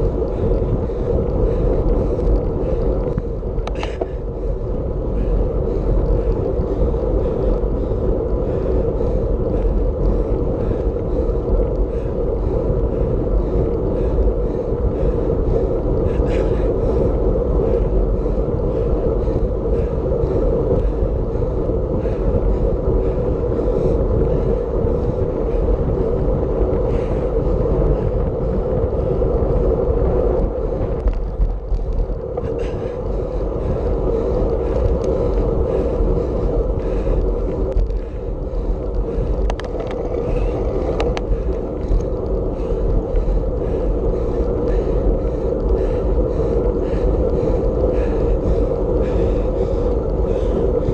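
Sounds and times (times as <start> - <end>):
bicycle tyre and road noise: 0.0 - 50.9
wind rushing over microphone: 0.0 - 50.9.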